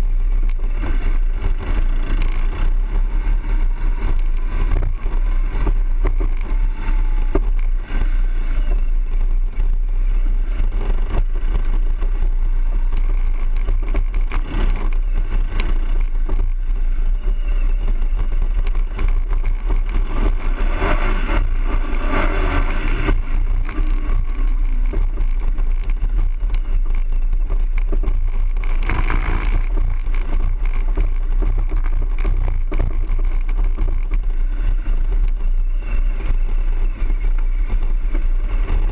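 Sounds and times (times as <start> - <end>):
ground noise: 0.0 - 38.9
motorcycle engine running: 0.0 - 38.9
wind rumble: 0.0 - 38.9.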